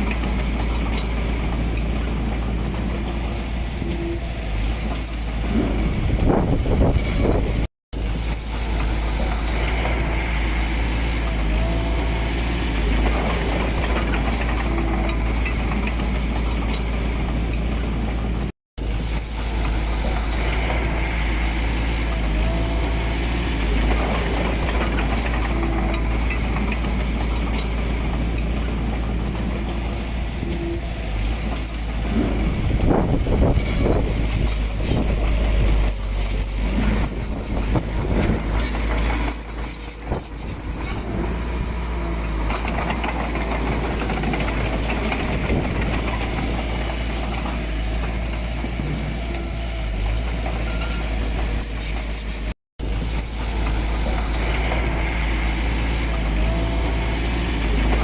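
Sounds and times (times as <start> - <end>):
diesel engine deep rumble: 0.0 - 58.0.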